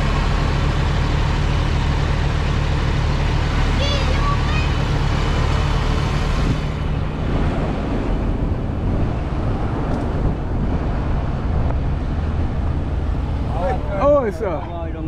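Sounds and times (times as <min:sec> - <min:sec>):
heavy vehicle engine drone: 0:00.0 - 0:15.0
road noise: 0:00.0 - 0:15.0.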